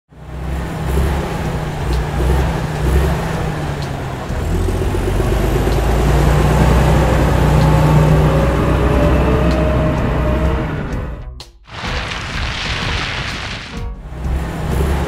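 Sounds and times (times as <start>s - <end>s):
cartoon vehicle engine rumble: 0.1s - 15.0s.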